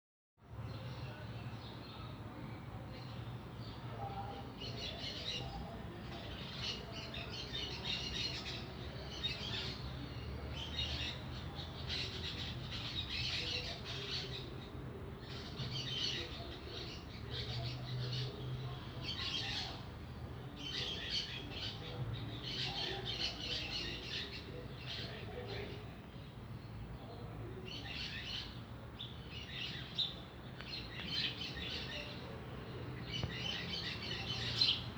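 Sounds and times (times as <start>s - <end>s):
small birds chirping: 0.5s - 34.9s.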